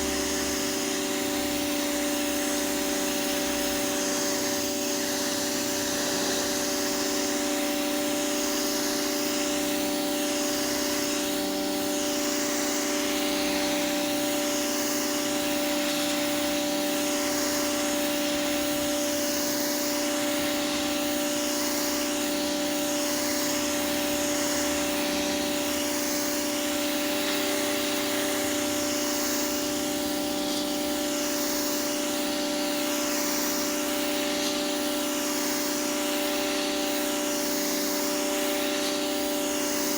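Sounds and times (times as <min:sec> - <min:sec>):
pressure washer motor humming: 0:00.0 - 0:39.9
water jet hissing on pavement: 0:00.0 - 0:39.9.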